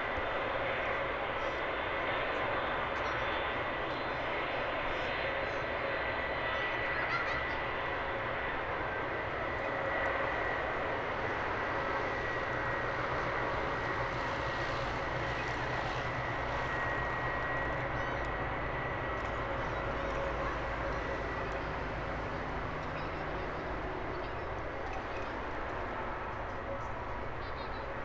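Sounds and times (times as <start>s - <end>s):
jet engines running with whine: 0.0s - 28.0s.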